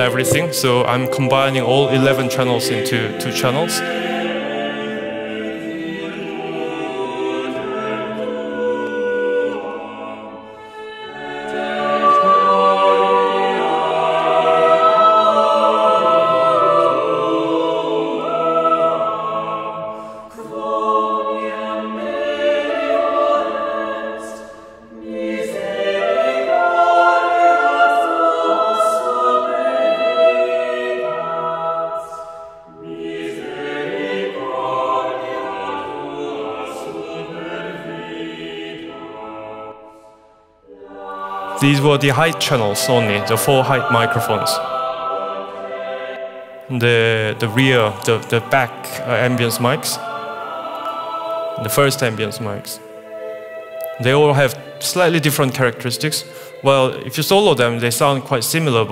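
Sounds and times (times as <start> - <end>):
choir singing in church: 0.0 - 58.9.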